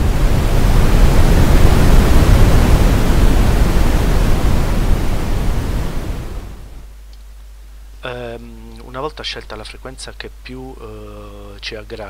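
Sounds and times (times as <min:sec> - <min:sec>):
brown noise: 0:00.0 - 0:12.0.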